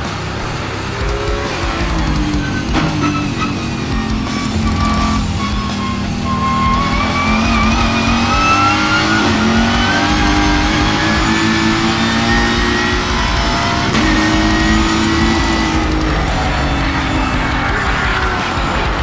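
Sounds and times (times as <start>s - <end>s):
race car engine accelerating: 0.0s - 19.0s
road and wind noise: 0.0s - 19.0s.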